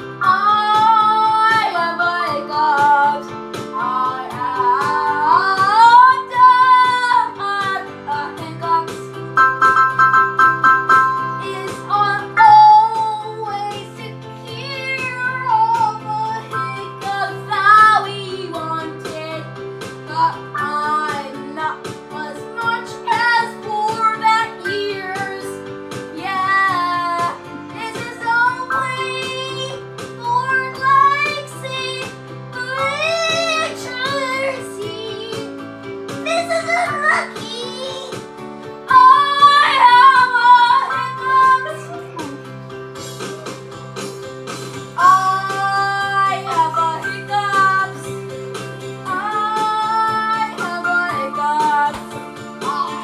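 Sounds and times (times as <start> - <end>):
held piano chords: 0.0 - 53.0
boy singing: 0.2 - 9.1, 11.4 - 35.5, 36.2 - 38.2, 38.8 - 42.4, 45.0 - 48.2, 49.1 - 53.0.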